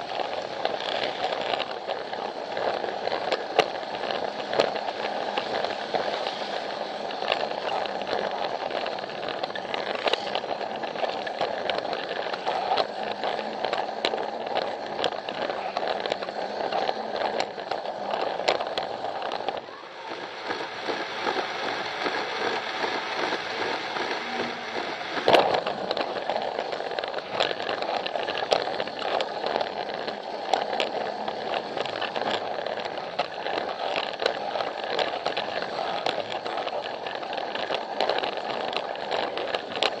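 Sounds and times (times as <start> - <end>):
toy train motor whirring: 0.0 - 40.0
toy train wheels clicking: 0.0 - 40.0.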